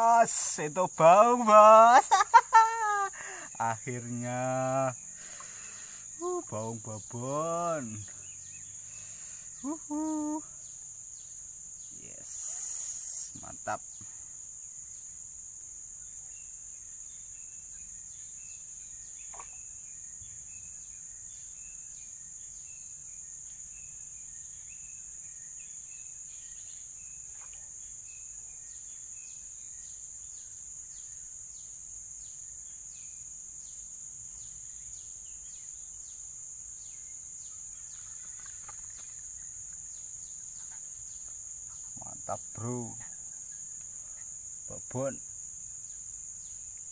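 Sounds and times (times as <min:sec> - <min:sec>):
bird chirping: 0:00.0 - 0:14.1, 0:16.0 - 0:45.2
insects droning: 0:00.0 - 0:46.9.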